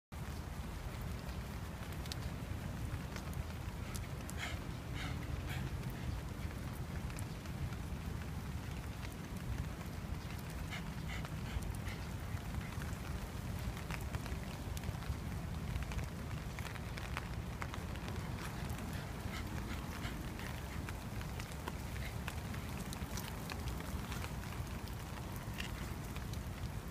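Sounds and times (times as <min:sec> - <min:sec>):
light rain pattering: 0:00.2 - 0:26.9
footsteps on wet pavement: 0:00.8 - 0:26.9.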